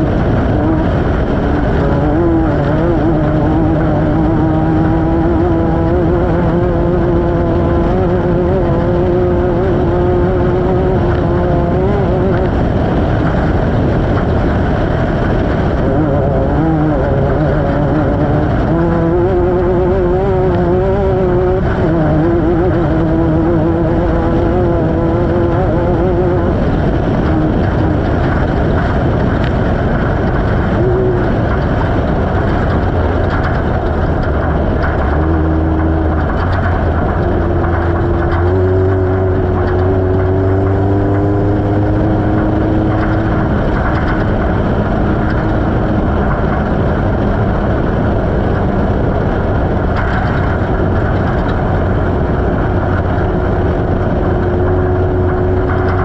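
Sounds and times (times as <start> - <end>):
race vehicle engine: 0.0 - 56.0
rushing noise: 0.0 - 56.0.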